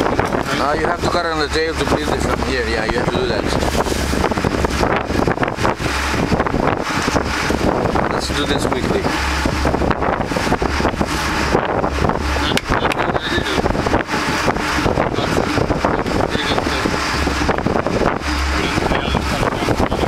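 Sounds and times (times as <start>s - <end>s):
boat engine droning: 0.0s - 20.0s
wind buffeting microphone: 0.0s - 20.0s.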